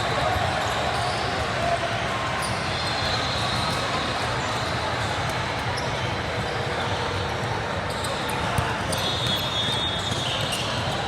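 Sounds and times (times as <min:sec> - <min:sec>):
crowd noise in a hall: 0:00.0 - 0:11.0.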